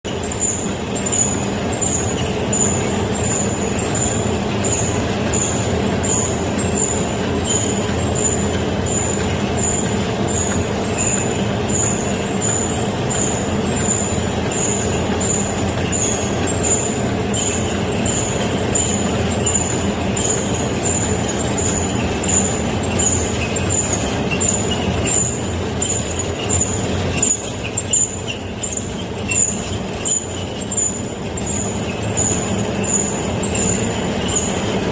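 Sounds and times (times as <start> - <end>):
rice cake machine running: 0.0 - 34.9.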